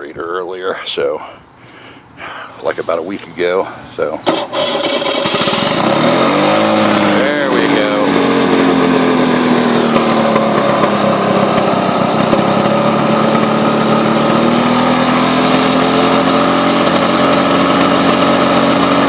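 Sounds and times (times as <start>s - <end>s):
lawn mower engine running: 2.3s - 19.0s.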